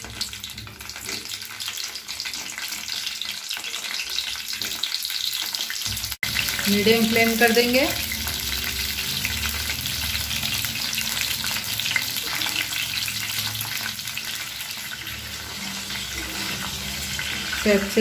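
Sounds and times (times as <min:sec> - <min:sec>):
aubergines frying in oil: 0:00.0 - 0:18.0.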